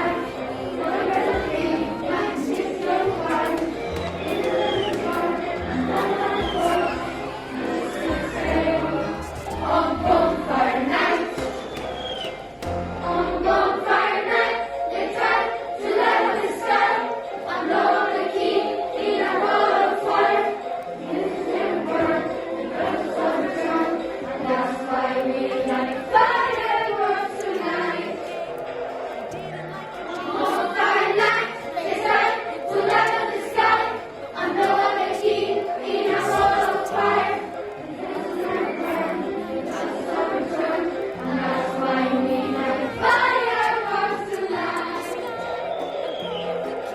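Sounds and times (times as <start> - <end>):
backing music with steady beat: 0.0 - 46.9
group of voices singing: 0.0 - 46.9.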